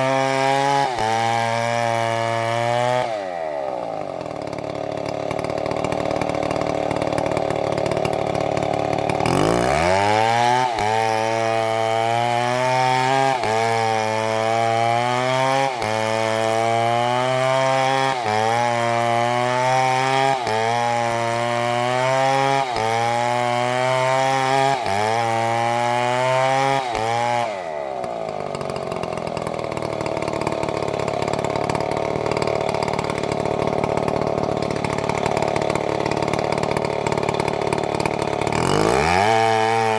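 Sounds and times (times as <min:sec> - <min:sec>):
chainsaw cutting: 0:00.0 - 0:39.9.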